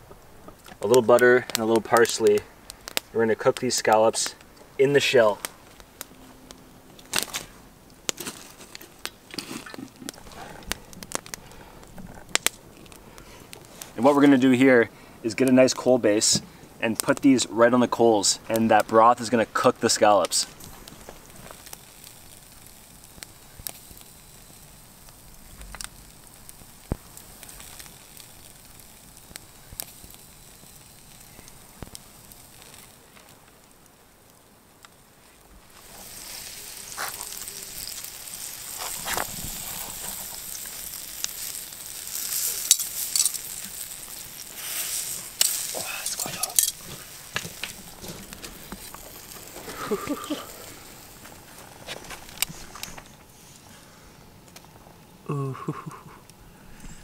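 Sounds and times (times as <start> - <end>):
campfire crackling: 0.0 - 57.0
fire popping: 0.0 - 57.0.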